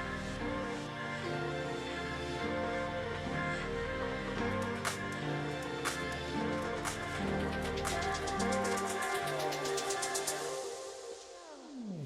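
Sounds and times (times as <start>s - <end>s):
melodic music with sustained chords: 0.0s - 12.0s.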